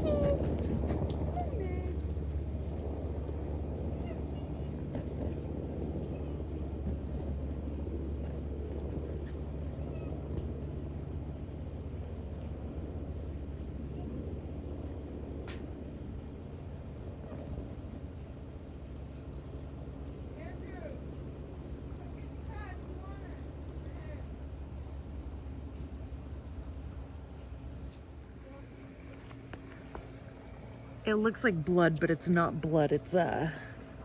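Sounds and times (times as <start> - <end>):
crickets trilling: 0.0 - 34.0
low steady hum: 0.0 - 34.0.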